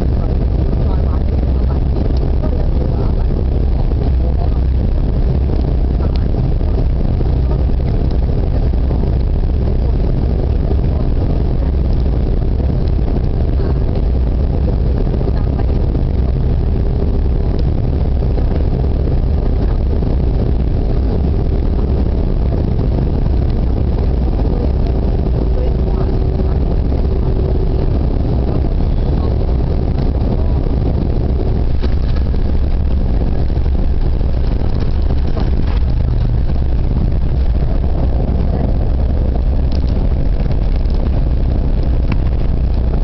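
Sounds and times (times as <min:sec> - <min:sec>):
higher steady hum: 0:00.0 - 0:43.0
jet cabin engine rumble: 0:00.0 - 0:43.0.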